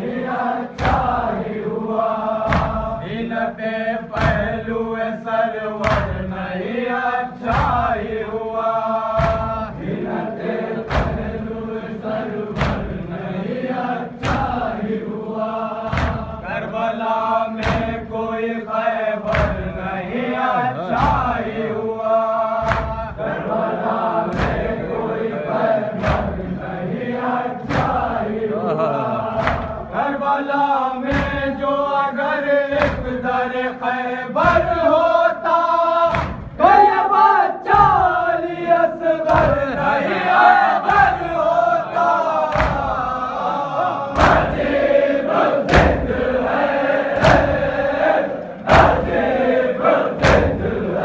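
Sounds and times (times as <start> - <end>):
men chanting a lament: 0.0 - 51.0
sharp rhythmic beats: 0.0 - 51.0.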